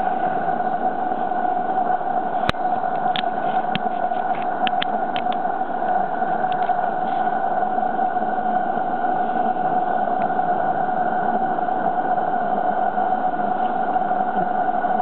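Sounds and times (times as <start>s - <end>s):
model locomotive whine: 0.0s - 15.0s.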